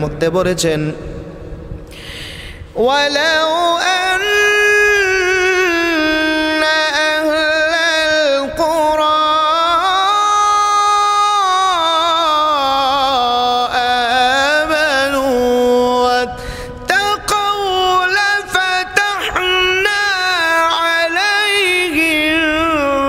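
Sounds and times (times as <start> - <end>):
man chanting melodic recitation: 2.8 - 23.0.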